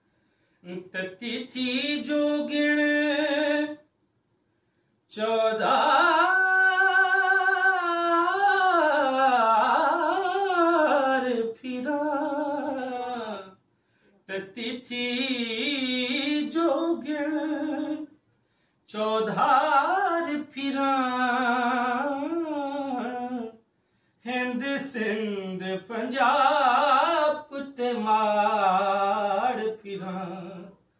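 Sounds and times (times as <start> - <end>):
man singing devotional song: 0.6 - 3.9, 5.1 - 13.6, 14.2 - 18.2, 18.8 - 23.6, 24.2 - 30.9.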